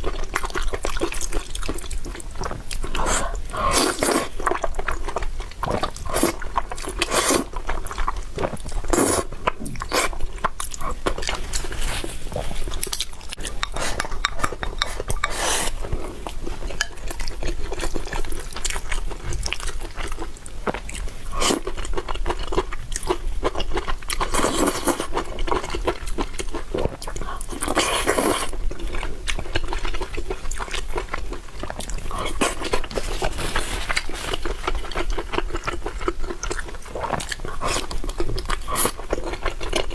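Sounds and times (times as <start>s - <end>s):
noisy eating bursts: 0.0s - 39.9s.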